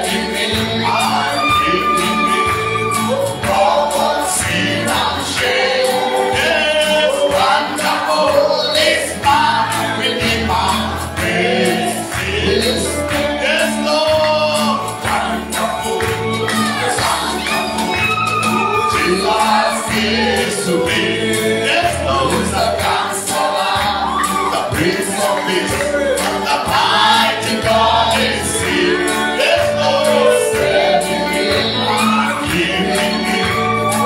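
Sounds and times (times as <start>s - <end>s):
instrumental backing with beat: 0.0s - 12.3s, 12.9s - 34.0s
group singing gospel song: 0.0s - 34.0s.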